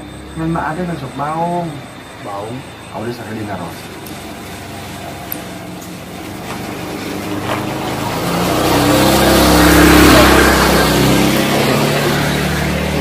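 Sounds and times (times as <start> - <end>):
vehicle engine approaching: 0.0 - 13.0.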